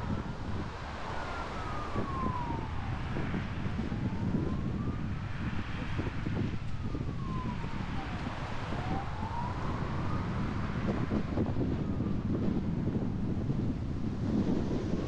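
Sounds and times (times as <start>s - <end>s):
car road and wind rumble: 0.0s - 15.0s
distant siren wailing: 0.0s - 15.0s.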